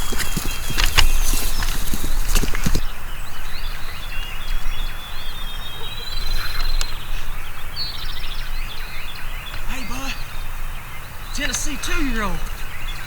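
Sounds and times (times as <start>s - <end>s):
bird trill: 0.0s - 13.0s
songbirds chirping: 0.0s - 13.0s.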